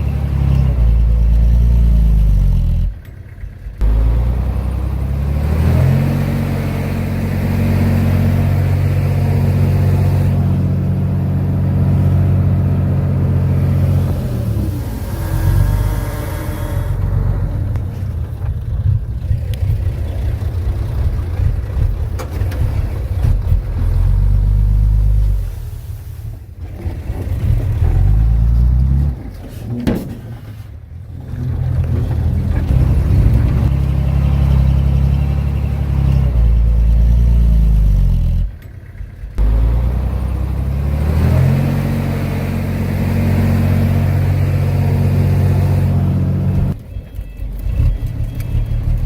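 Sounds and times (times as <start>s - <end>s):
diesel engine revving: 0.0s - 29.8s, 30.6s - 46.8s, 47.5s - 49.0s.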